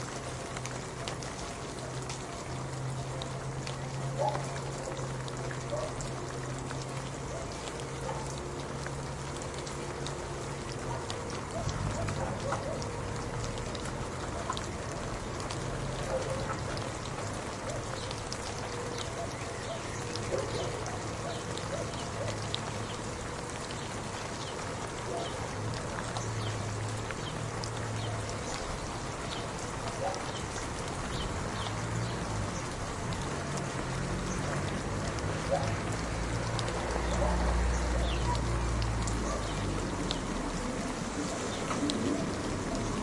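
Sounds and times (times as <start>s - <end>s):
rain drops pattering: 0.0s - 43.0s.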